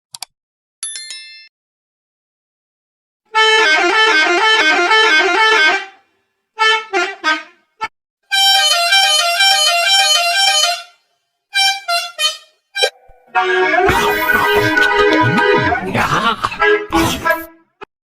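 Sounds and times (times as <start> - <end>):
musical bus horn melody: 3.3 - 17.8.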